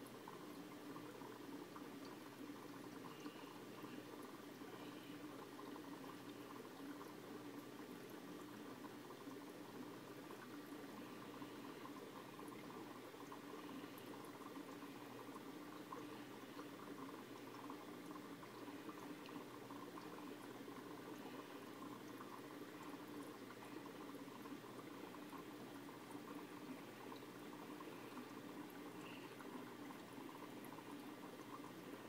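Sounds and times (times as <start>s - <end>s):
aquarium equipment hum: 0.0s - 32.0s
water bubbling: 0.0s - 32.0s.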